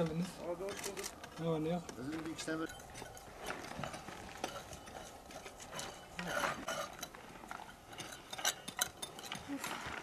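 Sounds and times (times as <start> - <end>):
hand tools scraping soil and stone: 0.0 - 10.0.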